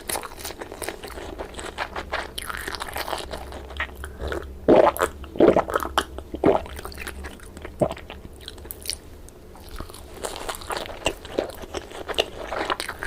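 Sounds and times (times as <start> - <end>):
mouth chewing: 0.0 - 9.0, 9.6 - 13.0.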